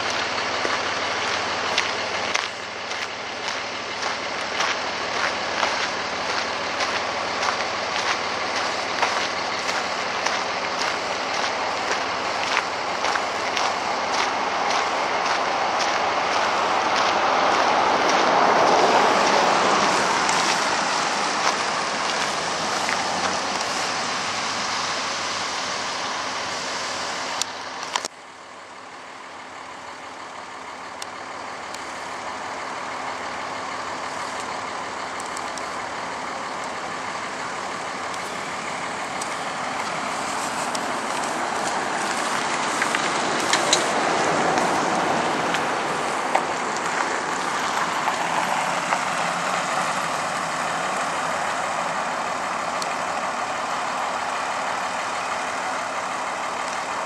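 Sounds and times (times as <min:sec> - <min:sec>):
vehicle passing: 0:00.0 - 0:27.4, 0:35.8 - 0:57.0.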